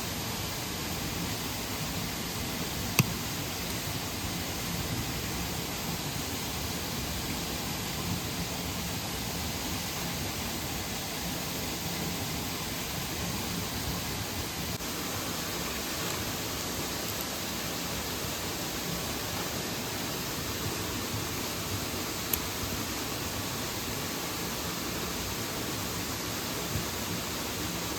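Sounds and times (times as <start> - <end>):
stream and waterfall rushing: 0.0 - 27.9.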